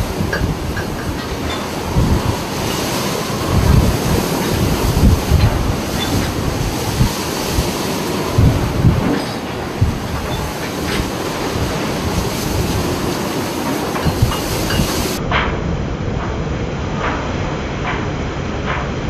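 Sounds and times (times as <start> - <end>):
waves breaking around ship: 0.0 - 19.0
wind buffeting microphone: 0.0 - 19.0.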